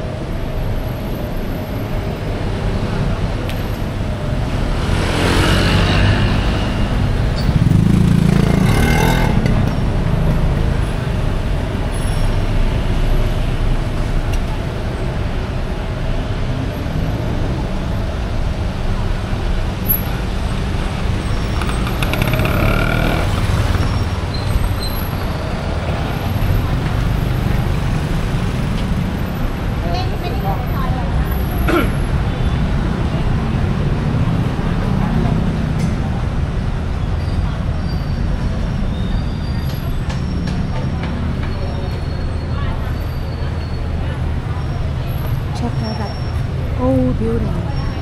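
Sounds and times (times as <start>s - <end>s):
street traffic rumble: 0.0s - 48.0s
vehicles passing: 0.0s - 48.0s.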